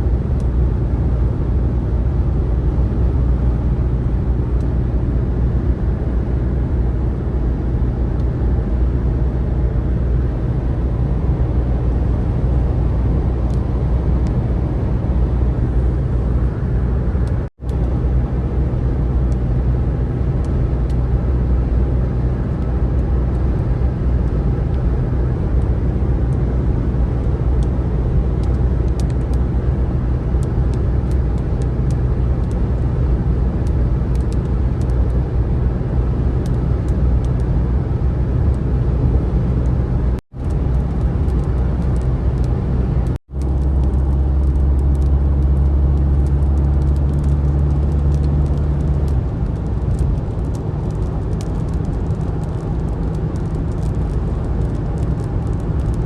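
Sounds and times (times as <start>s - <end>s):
car engine drone: 0.0s - 56.0s
road noise: 0.0s - 56.0s.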